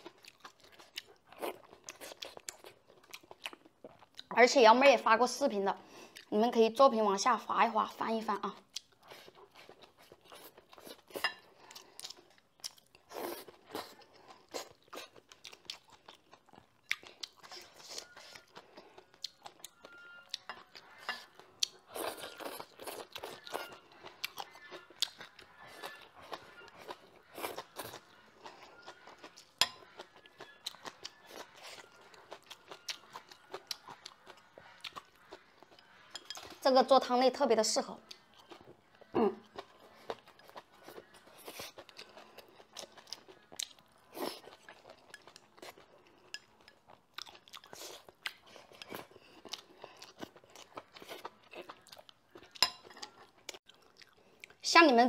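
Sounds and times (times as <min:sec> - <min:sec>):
person chewing and crunching: 0:00.0 - 0:04.4, 0:05.8 - 0:06.4, 0:08.4 - 0:36.7, 0:38.0 - 0:54.6.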